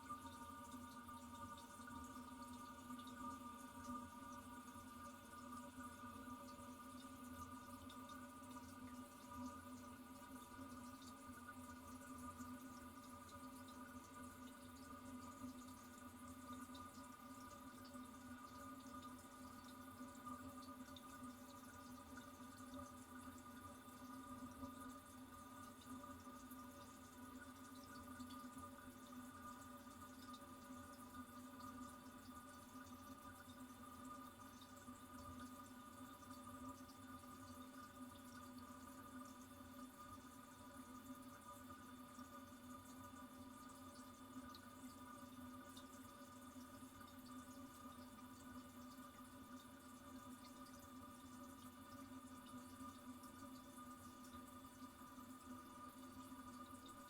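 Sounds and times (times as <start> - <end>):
light water drips: 0.0 - 57.0.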